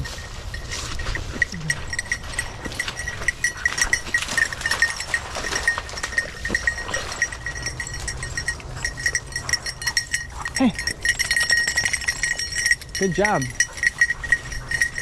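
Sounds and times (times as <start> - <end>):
rustle through tall grass: 0.0 - 12.3
collar bell jingling: 0.0 - 15.0.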